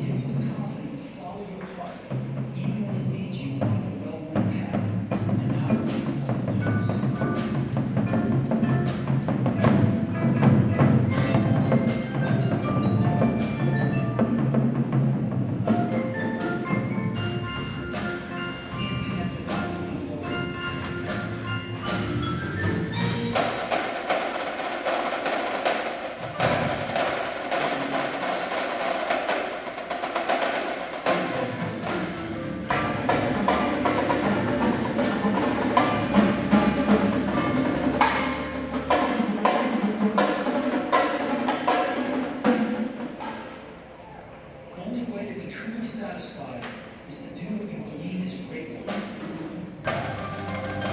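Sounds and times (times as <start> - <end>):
drum and percussion hits: 1.9 - 43.6, 48.9 - 50.9
marimbas playing melodies: 5.0 - 44.9, 49.1 - 50.9.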